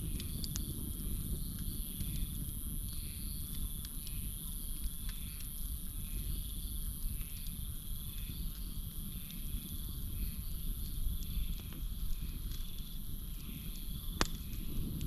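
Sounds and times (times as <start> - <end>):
campfire crackling: 0.0 - 15.0
night insects droning: 0.0 - 15.0.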